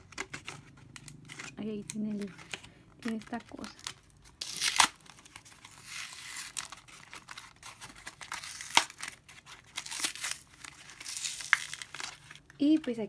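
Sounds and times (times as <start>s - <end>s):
packaging tearing and crinkling: 0.0s - 12.6s.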